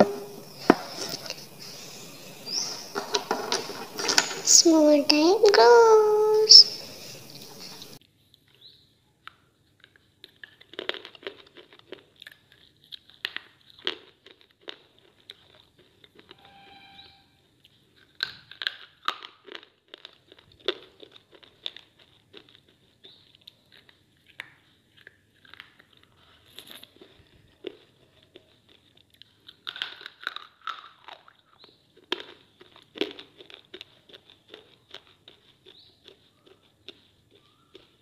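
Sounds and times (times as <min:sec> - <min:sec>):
person biting crunchy slate: 0:00.0 - 0:04.3, 0:09.8 - 0:16.3, 0:18.0 - 0:38.0
person chewing crunchily: 0:00.0 - 0:05.2, 0:06.6 - 0:16.4, 0:17.5 - 0:38.0.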